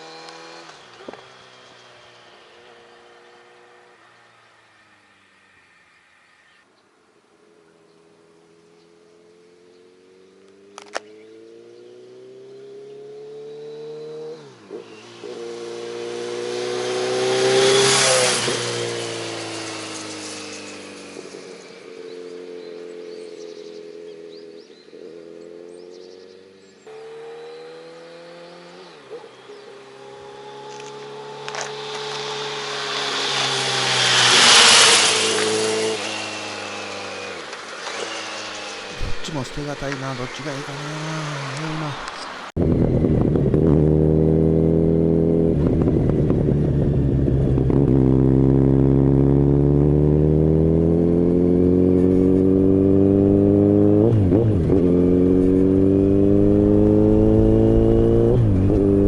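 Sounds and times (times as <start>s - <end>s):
motorcycle passing by: 0.0s - 6.6s, 7.8s - 59.0s.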